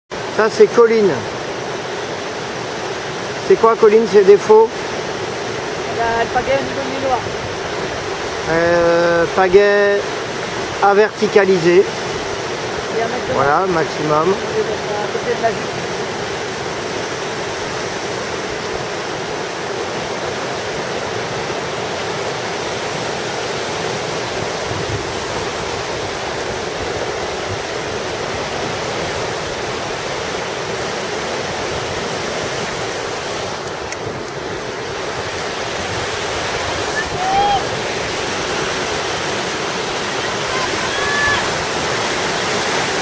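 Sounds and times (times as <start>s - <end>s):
whitewater rushing: 0.1s - 43.0s.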